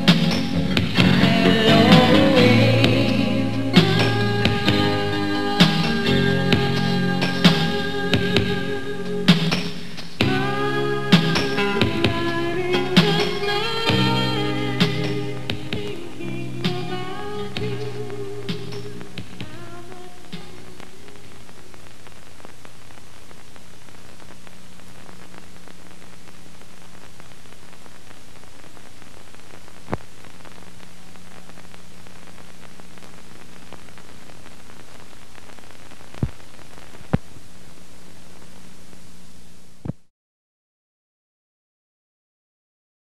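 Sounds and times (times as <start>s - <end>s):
tape static hiss: 0.0s - 40.1s.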